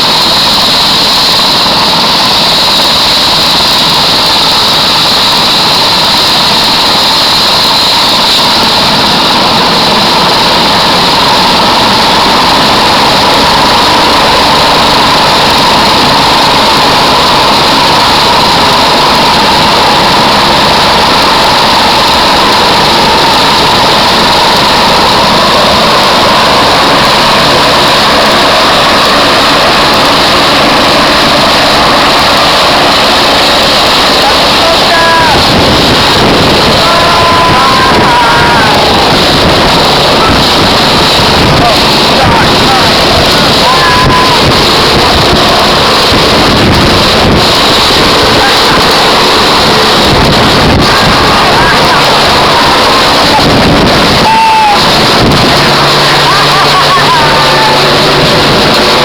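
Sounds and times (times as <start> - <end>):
helicopter turbine and rotor: 0.0 - 59.0.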